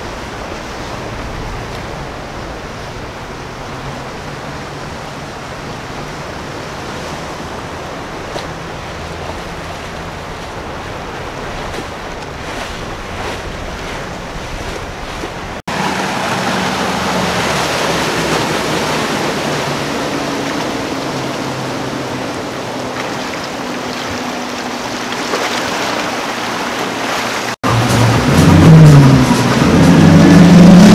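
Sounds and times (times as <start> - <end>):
outboard boat engines: 0.0 - 30.9
wake and surf rushing: 0.0 - 30.9.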